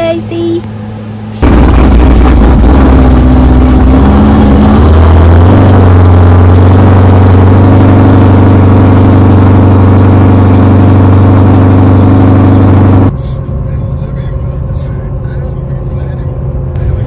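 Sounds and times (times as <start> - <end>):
car engine pulling away under load: 0.7 - 17.0.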